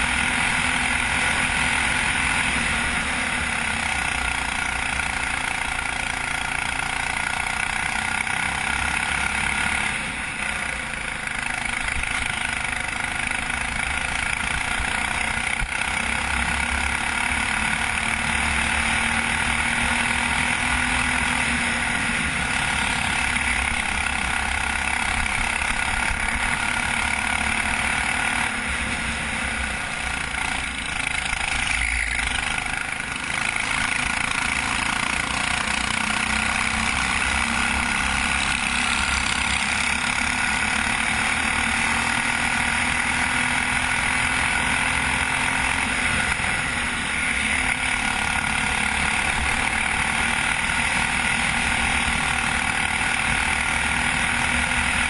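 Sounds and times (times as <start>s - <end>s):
go-kart engine revving high: 0.0s - 55.0s.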